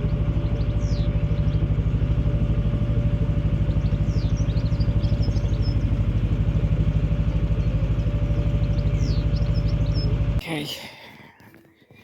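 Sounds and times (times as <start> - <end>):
diesel engine chugging: 0.0 - 10.4
birds chirping: 0.0 - 12.0.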